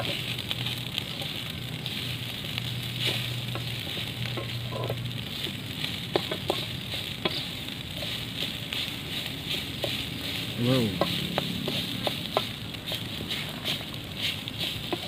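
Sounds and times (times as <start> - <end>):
rice sizzling in a wok: 0.0 - 15.0
spatula stirring and scraping: 0.0 - 15.0.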